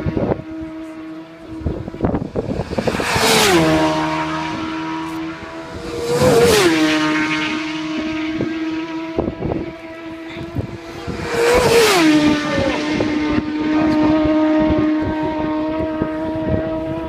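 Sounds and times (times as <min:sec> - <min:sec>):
high motorcycle engine note: 0:00.0 - 0:17.0
motorcycle passing by: 0:00.0 - 0:17.0.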